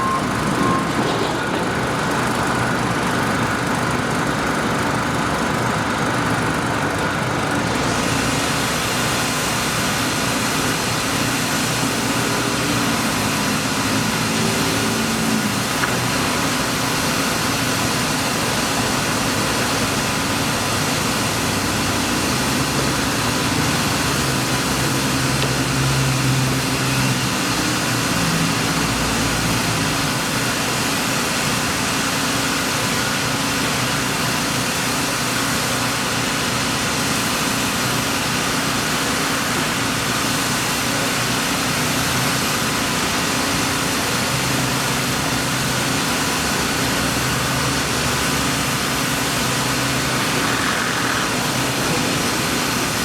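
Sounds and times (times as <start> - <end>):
engine and traffic noise: 0.0 - 53.0.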